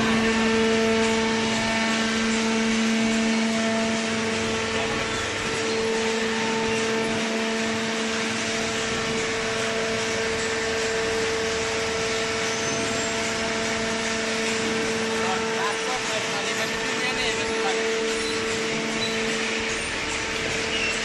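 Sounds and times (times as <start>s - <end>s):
baler machine humming: 0.0s - 21.0s.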